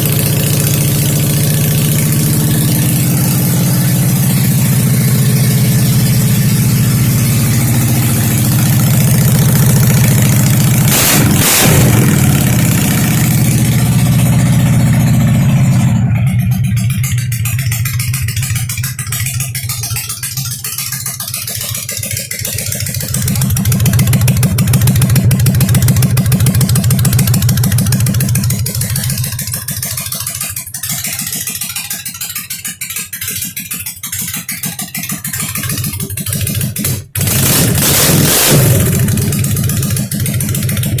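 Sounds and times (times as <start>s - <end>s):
motorcycle engine idling and revving: 0.0s - 41.0s.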